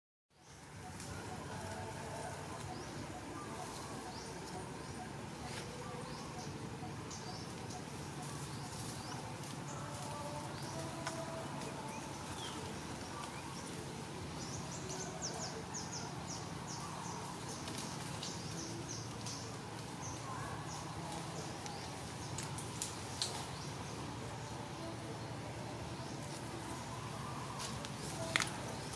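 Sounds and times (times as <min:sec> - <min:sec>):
steady low hum: 0:00.4 - 0:28.9.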